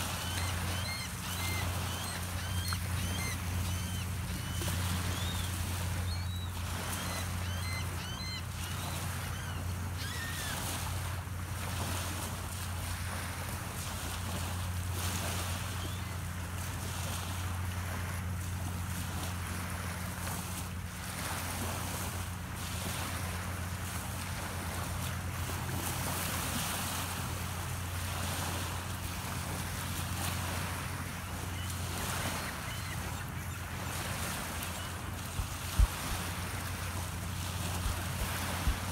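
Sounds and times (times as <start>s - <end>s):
small waves lapping: 0.0s - 38.9s
steady low hum: 0.0s - 38.9s.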